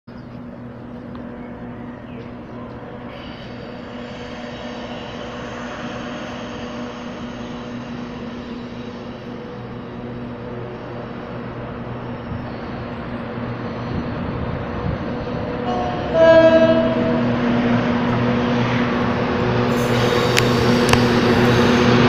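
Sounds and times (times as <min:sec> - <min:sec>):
engine hum: 0:00.1 - 0:22.0
high steady whining tones: 0:00.2 - 0:22.0.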